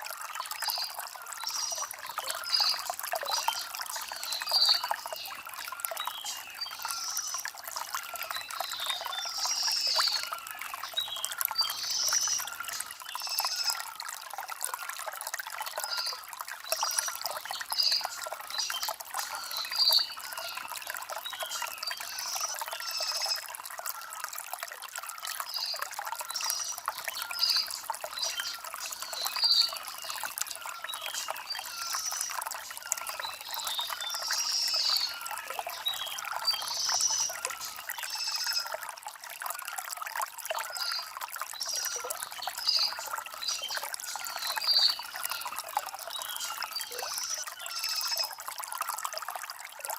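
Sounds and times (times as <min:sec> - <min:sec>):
stream trickling over stones: 0:00.0 - 0:49.9
small birds chirping: 0:00.6 - 0:13.8, 0:15.7 - 0:23.5, 0:25.4 - 0:38.7, 0:40.7 - 0:48.4.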